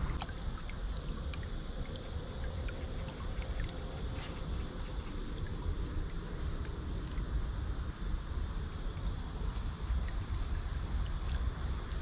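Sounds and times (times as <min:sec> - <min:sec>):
steady low rumble: 0:00.0 - 0:12.0
water trickling and dripping: 0:00.0 - 0:12.0.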